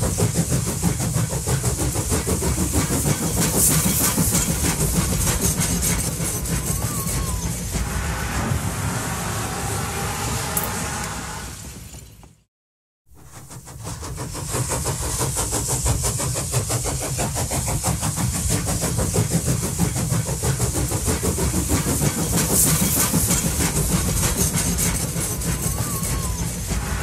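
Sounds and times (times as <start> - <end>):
train running: 0.0 - 12.5, 13.1 - 27.0.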